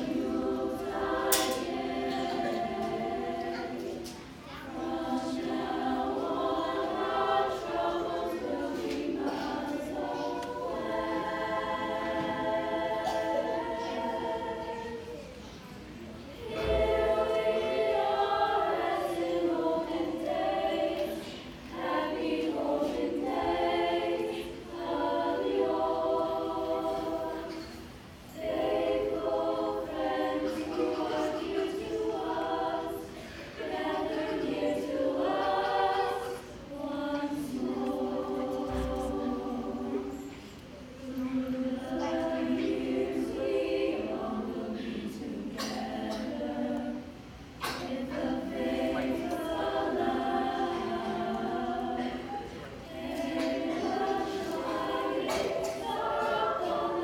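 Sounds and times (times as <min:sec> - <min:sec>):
girls' choir singing: 0:00.0 - 0:57.0.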